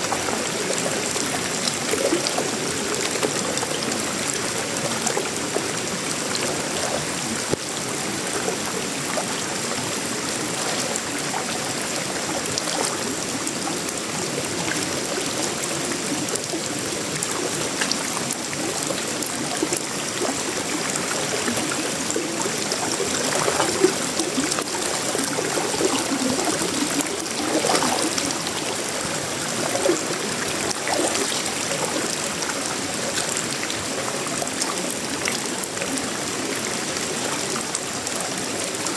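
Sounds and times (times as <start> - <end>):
rain on a metal roof: 0.0 - 38.9
trickling water: 0.0 - 38.9.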